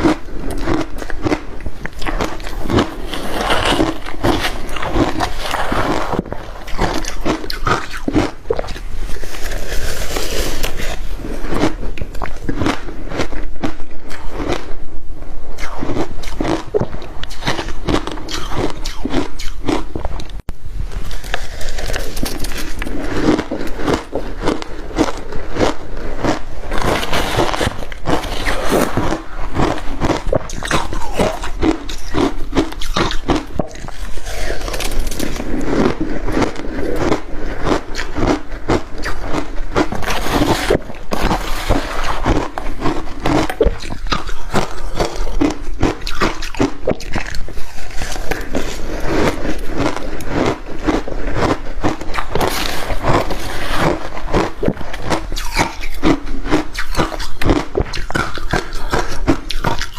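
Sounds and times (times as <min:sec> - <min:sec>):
chewing crushed ice crunching: 0:00.0 - 0:14.8, 0:15.6 - 0:20.4, 0:21.1 - 0:59.9.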